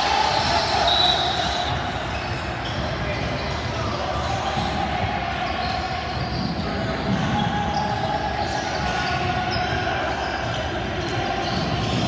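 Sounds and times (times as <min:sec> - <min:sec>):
basketball bouncing on court: 0:01.3 - 0:12.0.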